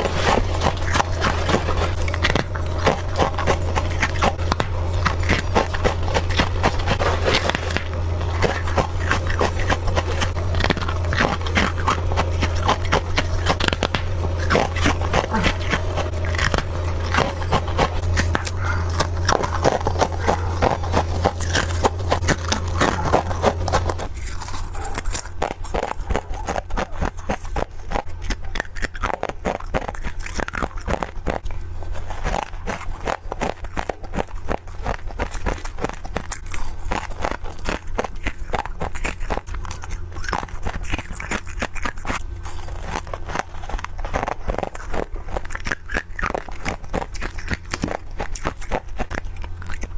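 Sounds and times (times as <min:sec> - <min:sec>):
ice crunching being chewed: 0:00.0 - 0:49.9
low steady hum: 0:00.0 - 0:49.9.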